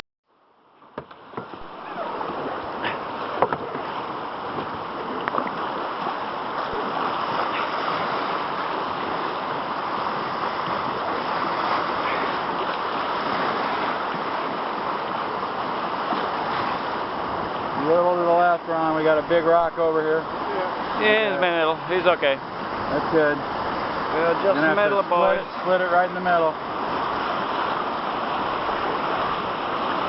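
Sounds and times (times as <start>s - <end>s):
river water rushing: 0.3s - 30.0s.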